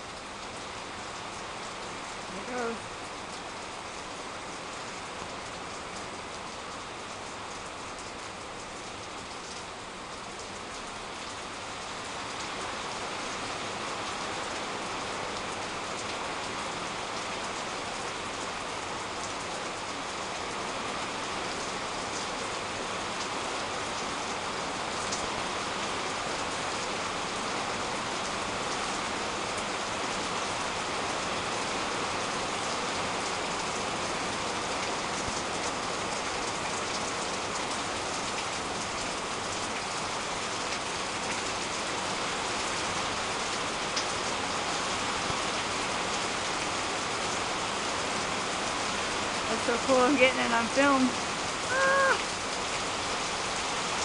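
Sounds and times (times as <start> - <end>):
heavy rain on foliage and roofs: 0.0 - 54.0.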